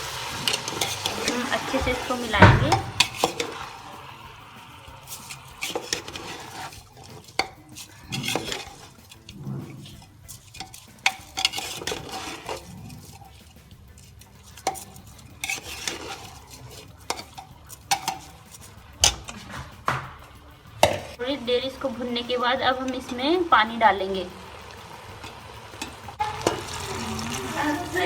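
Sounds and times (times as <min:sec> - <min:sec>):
low frying sizzle: 0:00.0 - 0:28.0
spoon scraping a pot: 0:00.0 - 0:28.0.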